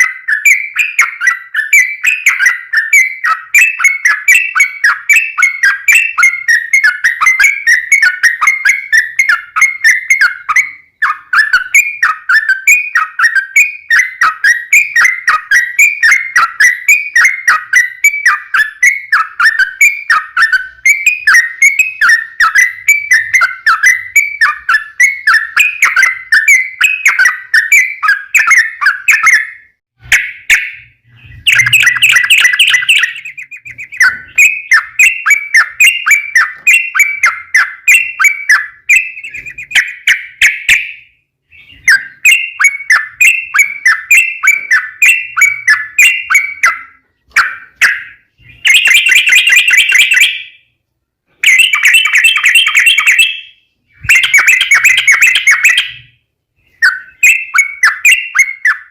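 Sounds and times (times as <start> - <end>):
bulbul bubbling whistled song: 0.0 - 50.5, 51.4 - 56.1.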